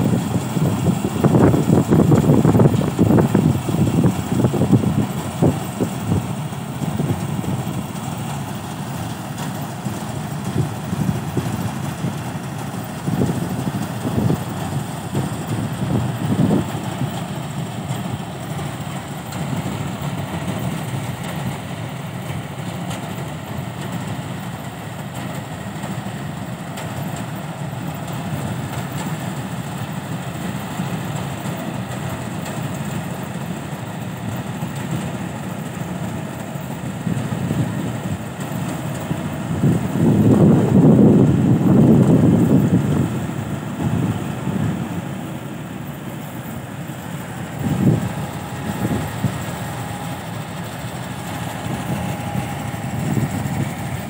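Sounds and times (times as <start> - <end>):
combine harvester engine rumbling: 0.0 - 54.0.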